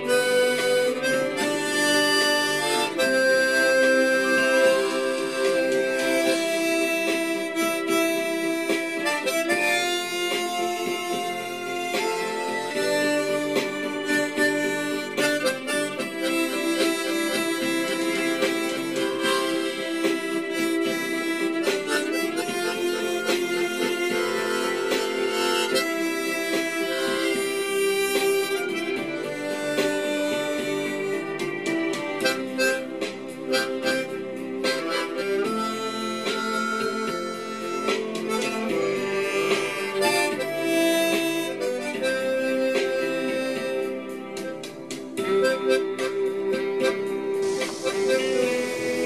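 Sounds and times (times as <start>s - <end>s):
harmonica melody: 0.0s - 49.0s.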